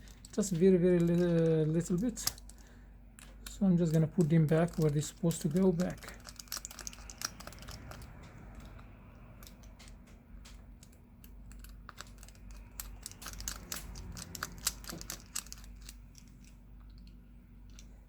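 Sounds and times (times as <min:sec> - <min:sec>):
screwdriver clicking on metal parts: 0:00.0 - 0:18.0.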